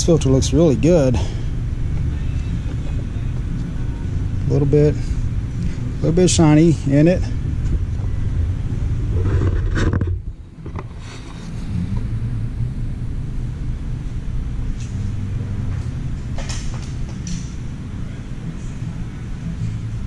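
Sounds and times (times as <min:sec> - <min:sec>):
low workshop rumble: 0:00.0 - 0:20.0.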